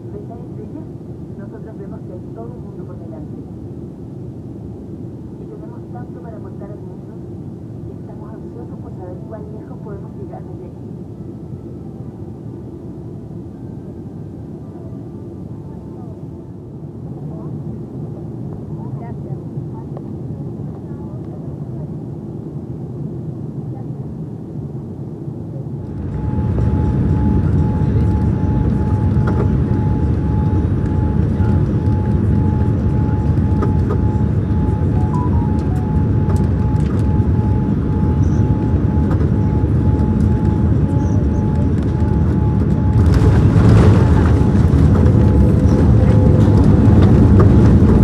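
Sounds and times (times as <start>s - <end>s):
jet engines and airflow rumble: 0.0s - 48.0s.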